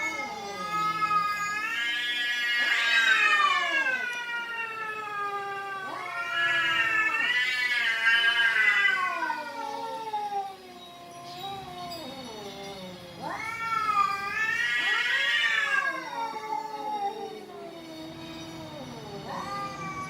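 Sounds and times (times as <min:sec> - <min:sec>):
cats yowling: 0:00.0 - 0:20.0.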